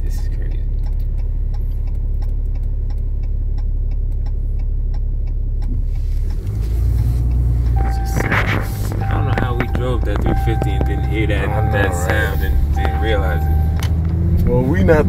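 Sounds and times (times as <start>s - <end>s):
light regular ticking: 0.0s - 14.4s
truck engine running: 0.0s - 15.0s.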